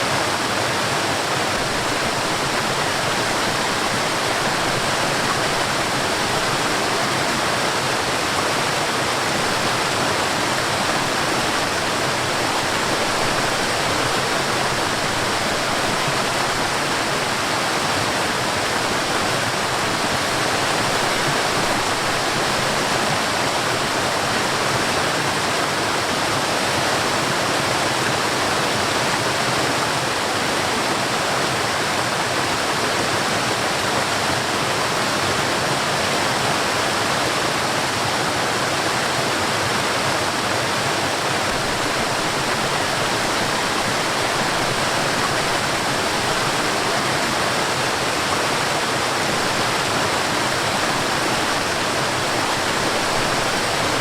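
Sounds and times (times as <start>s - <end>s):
waterfall pouring and splashing: 0.0s - 54.0s.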